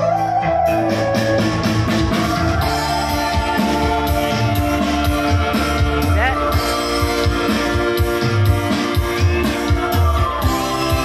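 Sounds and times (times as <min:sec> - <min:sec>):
upbeat electronic keyboard music: 0:00.0 - 0:11.0.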